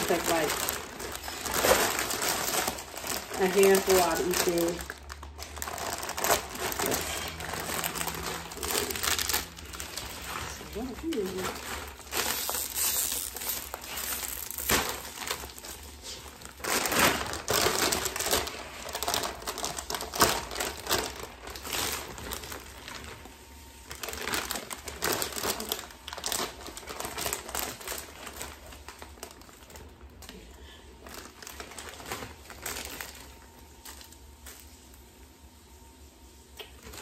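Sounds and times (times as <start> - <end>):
plastic candy bags crinkling: 0.0 - 35.2, 36.6 - 37.0.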